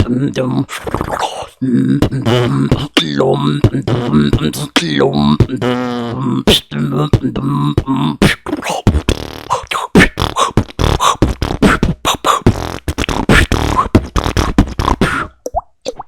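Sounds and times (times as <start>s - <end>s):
person beatboxing: 0.0s - 16.0s.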